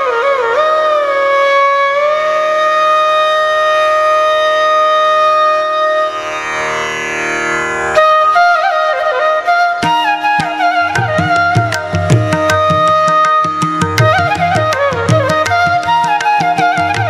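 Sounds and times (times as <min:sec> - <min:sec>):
indian classical style music: 0:00.0 - 0:17.0.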